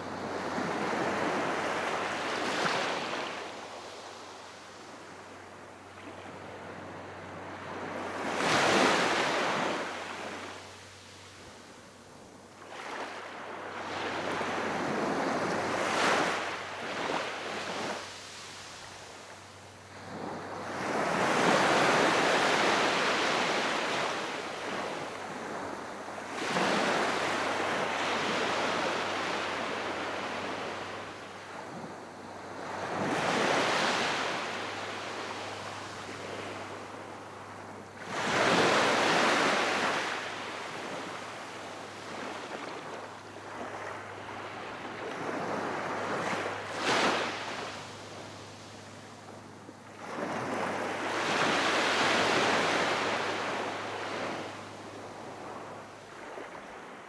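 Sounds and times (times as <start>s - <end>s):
calm sea waves washing: 0.0s - 57.0s.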